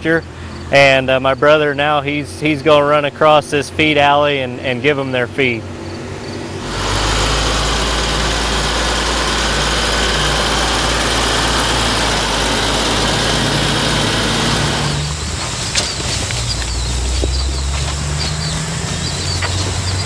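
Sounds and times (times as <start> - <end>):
tractor engine hum: 0.0 - 20.0.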